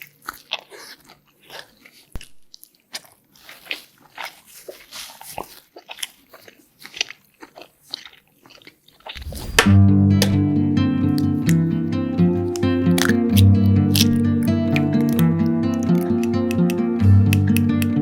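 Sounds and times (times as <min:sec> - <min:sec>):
crunchy biting and chewing: 0:00.0 - 0:09.6, 0:12.5 - 0:18.0.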